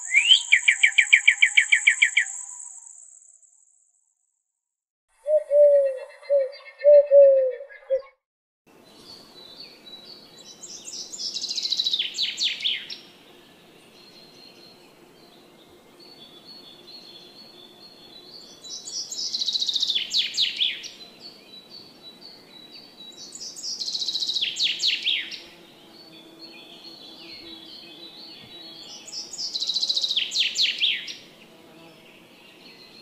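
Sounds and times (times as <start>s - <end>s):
songbird singing: 0.0s - 3.7s, 5.2s - 33.0s.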